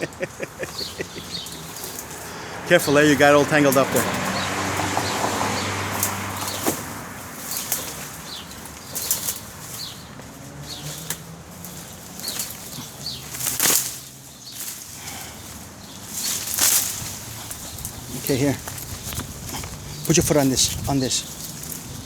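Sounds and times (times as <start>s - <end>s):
brush and twigs rustling and snapping: 0.0s - 22.0s.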